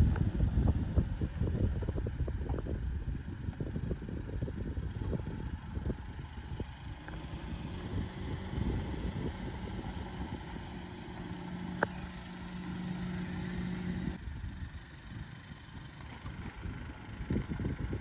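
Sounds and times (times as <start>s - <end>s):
truck engine running at low revs: 0.0s - 18.0s.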